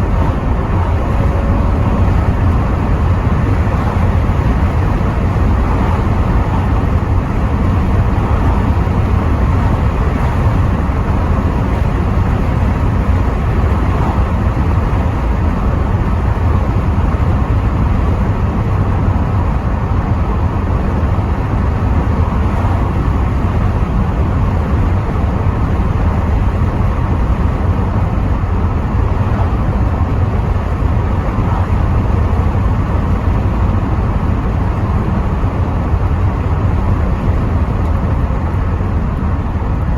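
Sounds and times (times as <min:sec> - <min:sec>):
car engine and road rumble: 0:00.0 - 0:39.9
wind noise through windows: 0:00.0 - 0:39.9.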